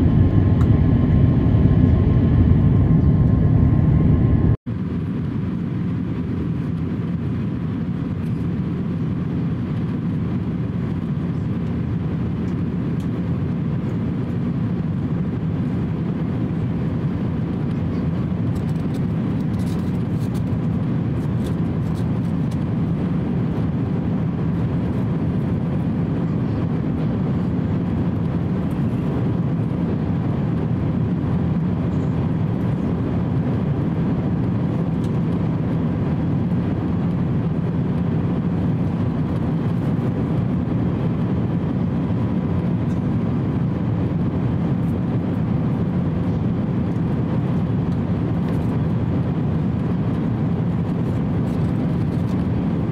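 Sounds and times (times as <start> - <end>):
airplane cabin airflow and engines: 0.0 - 52.9.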